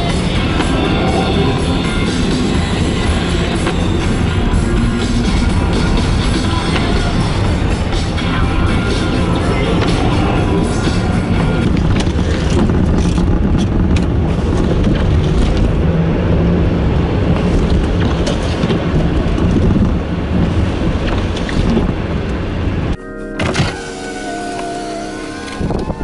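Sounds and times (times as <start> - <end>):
wind blowing across microphone: 0.0 - 23.7, 25.3 - 26.0.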